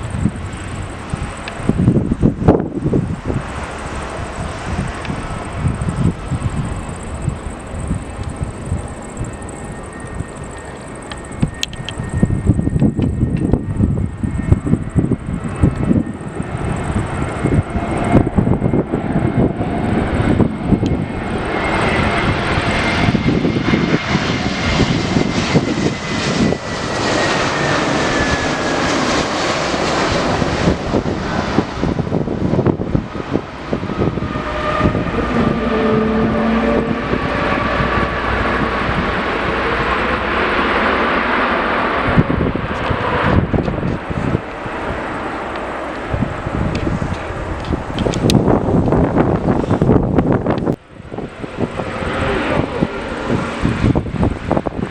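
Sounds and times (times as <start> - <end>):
high turbine whine: 0.0 - 54.9
jet aircraft engines passing: 0.0 - 54.9
lower turbine whine: 0.0 - 54.9.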